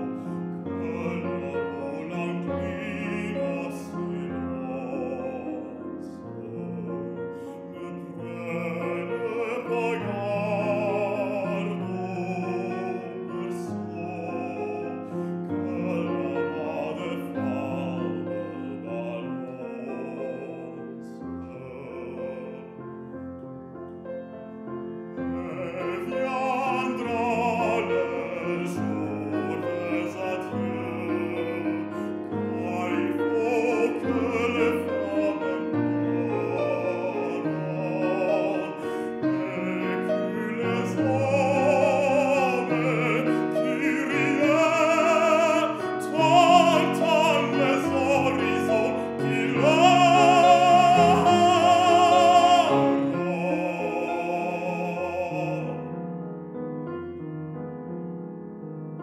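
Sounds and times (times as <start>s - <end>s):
baritone singing with vibrato: 0.0s - 23.2s, 25.0s - 56.1s
grand piano accompaniment: 0.0s - 59.0s.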